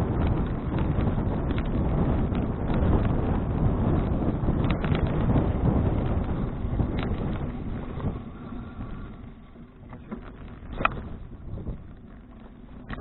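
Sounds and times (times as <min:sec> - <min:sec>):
low rumbling road noise: 0:00.0 - 0:13.0
wind buffeting microphone: 0:00.0 - 0:13.0.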